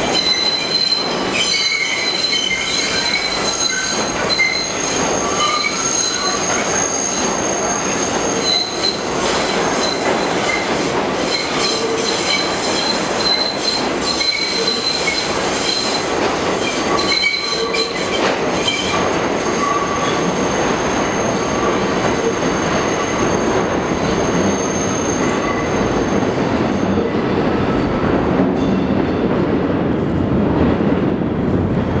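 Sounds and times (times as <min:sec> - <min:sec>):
subway wheels squealing on curve: 0:00.0 - 0:27.9
rumble of subway cars: 0:00.0 - 0:32.0.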